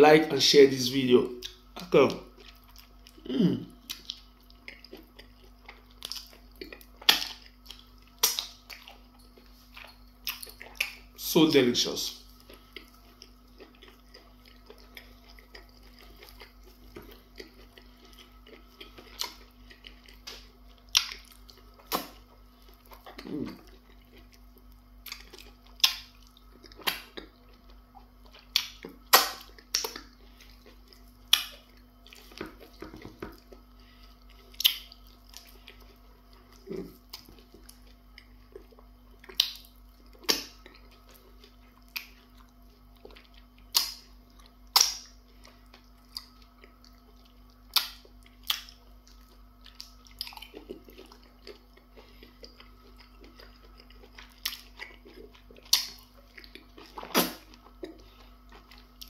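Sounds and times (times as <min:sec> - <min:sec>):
low steady hum: 0:00.0 - 0:59.0
wet mouth smacks while chewing: 0:03.9 - 0:11.0, 0:12.8 - 0:24.4, 0:25.0 - 0:27.4, 0:28.3 - 0:33.6, 0:34.5 - 0:35.8, 0:36.7 - 0:44.1, 0:44.7 - 0:47.0, 0:47.7 - 0:58.9.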